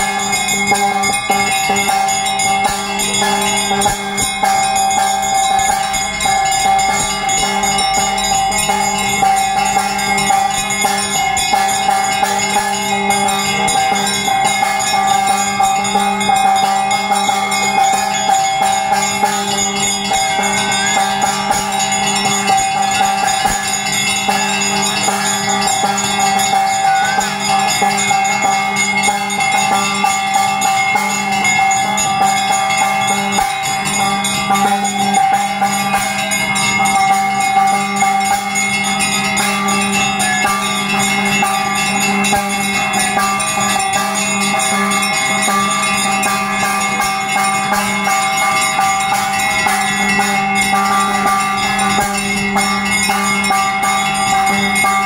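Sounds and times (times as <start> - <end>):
bells ringing continuously: 0.0 - 55.0.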